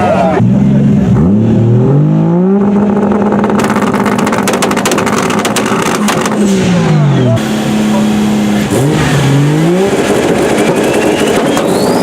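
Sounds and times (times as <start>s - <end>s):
car engine revving: 0.0s - 12.0s
exhaust crackling: 0.0s - 12.0s.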